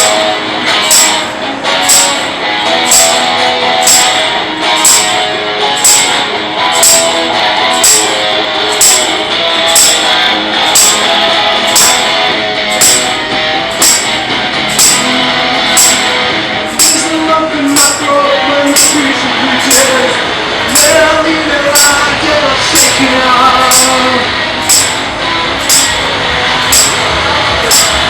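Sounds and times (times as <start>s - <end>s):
fuzz electric guitar riff: 0.0s - 28.0s
tambourine striking: 0.0s - 28.0s.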